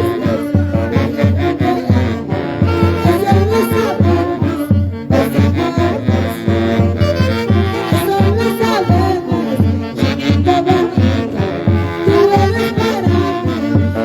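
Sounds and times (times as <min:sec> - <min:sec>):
person singing: 0:00.0 - 0:14.0
wind instruments melody: 0:00.0 - 0:14.0.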